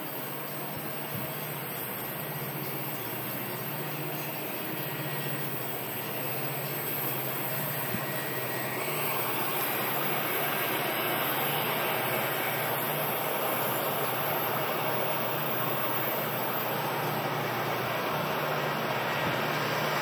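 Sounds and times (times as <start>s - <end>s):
distant freight train drone: 0.0s - 20.0s.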